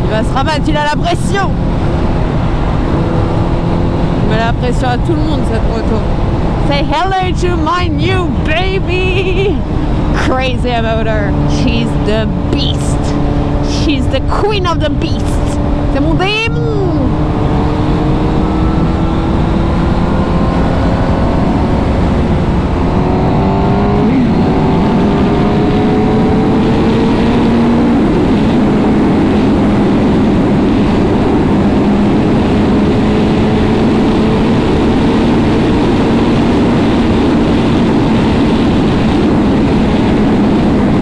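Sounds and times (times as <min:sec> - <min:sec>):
motorcycle engine accelerating: 0:00.0 - 0:41.0
wind rushing over microphone: 0:00.0 - 0:41.0.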